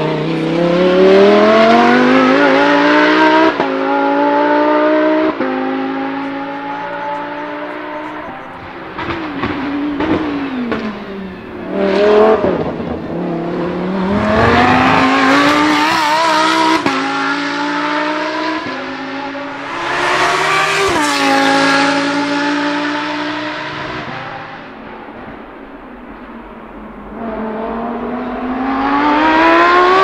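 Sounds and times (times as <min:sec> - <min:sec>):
race car engine accelerating: 0:00.0 - 0:24.7, 0:27.1 - 0:30.0.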